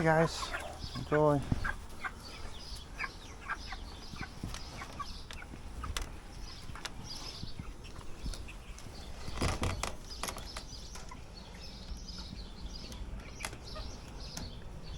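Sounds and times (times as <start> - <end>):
chickens clucking and peeping: 0.0 - 14.9.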